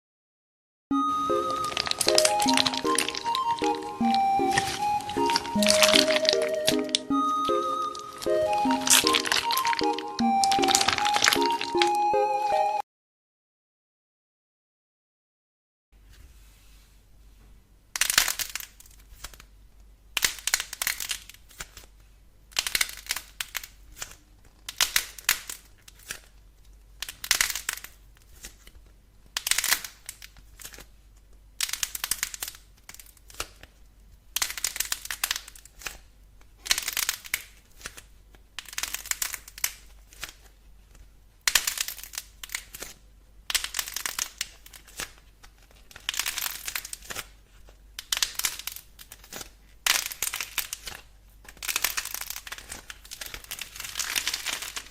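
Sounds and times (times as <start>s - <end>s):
crunchy slime crackling: 1.2s - 12.0s, 17.9s - 19.5s, 20.1s - 54.9s.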